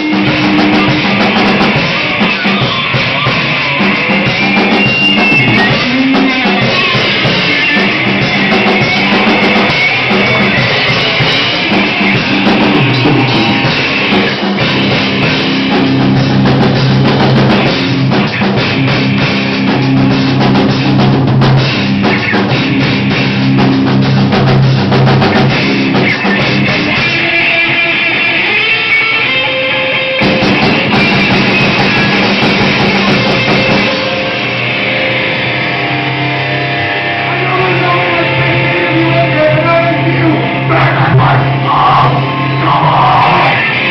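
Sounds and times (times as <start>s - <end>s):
bass guitar: 0.0s - 43.9s
drum kit: 0.0s - 43.9s
electric guitar: 0.0s - 43.9s.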